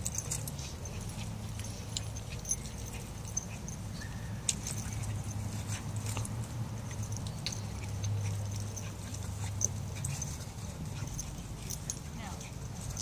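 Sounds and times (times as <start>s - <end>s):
dogs play-fighting: 0.0s - 13.0s.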